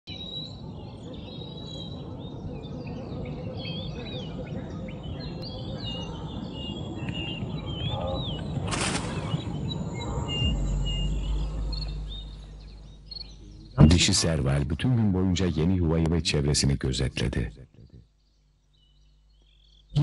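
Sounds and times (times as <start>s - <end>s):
birds chirping: 0.1s - 20.0s
low background noise: 0.1s - 20.0s.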